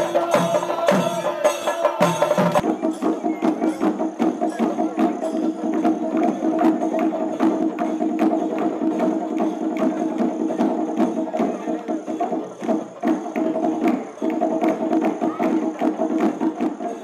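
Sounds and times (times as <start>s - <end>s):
fast sharp drum strokes: 0.0s - 17.0s.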